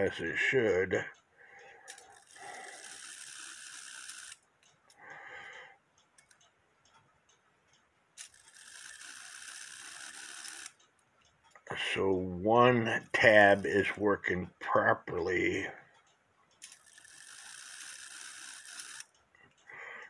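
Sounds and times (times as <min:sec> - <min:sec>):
clock mechanism ratcheting: 0:00.0 - 0:14.2, 0:15.3 - 0:19.7.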